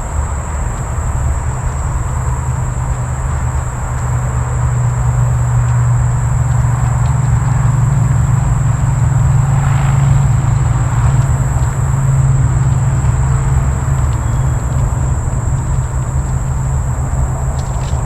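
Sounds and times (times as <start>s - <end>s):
insects chirring: 0.0s - 18.0s
steady low rumble: 0.0s - 18.0s.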